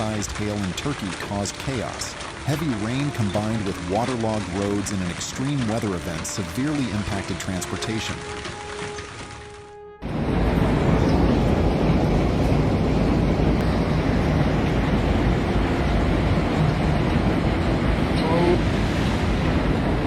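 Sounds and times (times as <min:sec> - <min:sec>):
traffic on wet road: 0:00.0 - 0:09.8, 0:13.6 - 0:20.0
heavy rain: 0:00.0 - 0:20.0.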